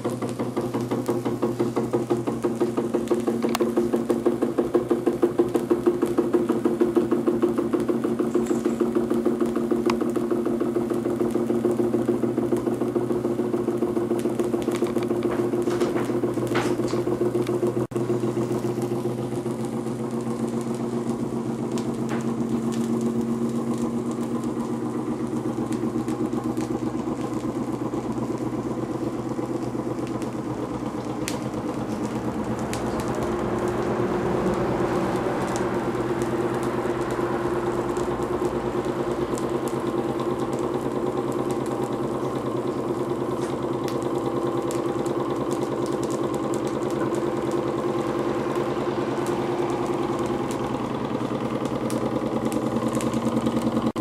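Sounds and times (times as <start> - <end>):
stirling engine running: 0.0 - 54.0.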